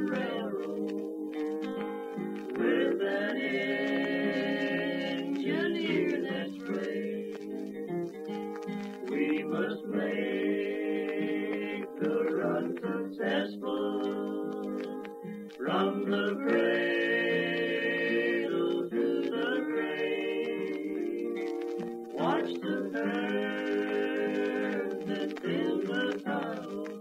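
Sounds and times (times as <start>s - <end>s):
singers harmonizing: 0.0s - 8.0s, 8.7s - 27.0s.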